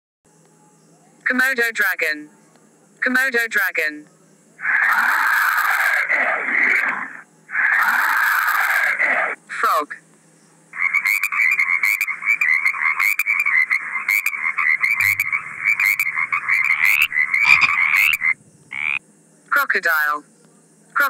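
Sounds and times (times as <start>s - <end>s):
frogs croaking: 0.4s - 21.0s.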